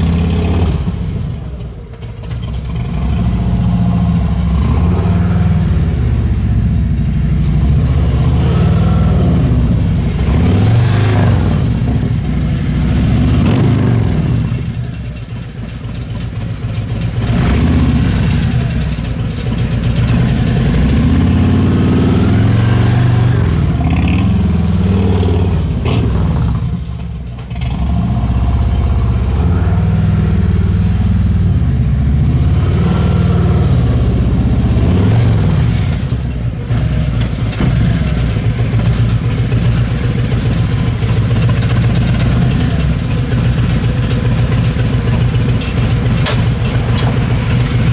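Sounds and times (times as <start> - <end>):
motorcycle engine at low speed: 0.0 - 47.9.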